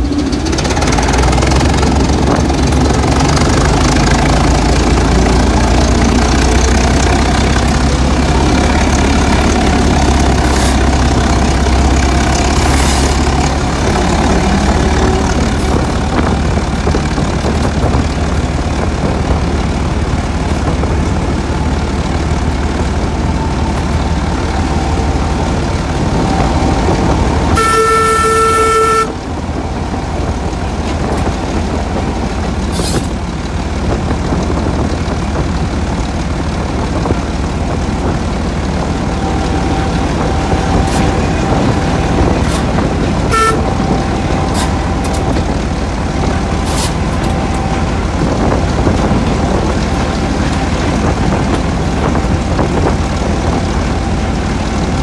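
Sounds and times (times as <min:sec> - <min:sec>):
locomotive horn: 0:00.0 - 0:18.0, 0:20.7 - 0:33.1, 0:38.7 - 0:54.8
diesel locomotive engine running: 0:00.0 - 0:55.0.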